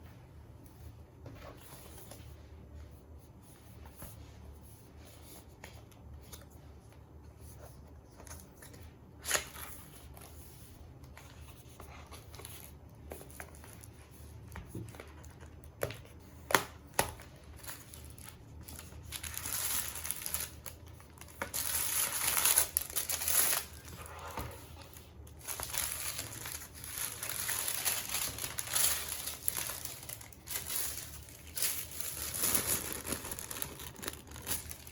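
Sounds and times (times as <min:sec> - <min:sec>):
low steady room hum: 0:00.0 - 0:34.9
crinkling and rustling: 0:05.0 - 0:34.9.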